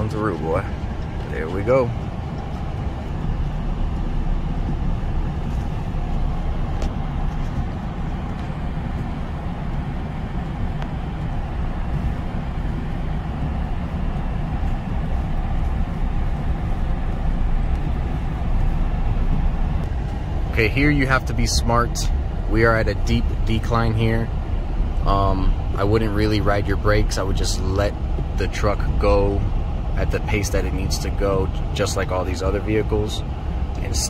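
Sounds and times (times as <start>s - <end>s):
truck engine rumble: 0.0s - 34.0s.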